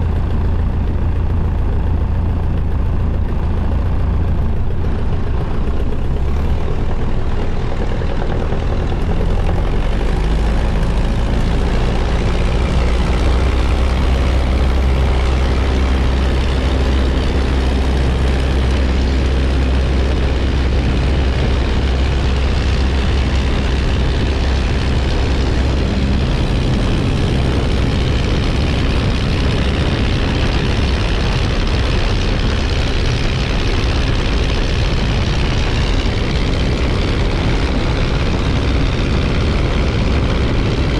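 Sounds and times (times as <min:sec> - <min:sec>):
propeller engine running: 0:00.0 - 0:40.9.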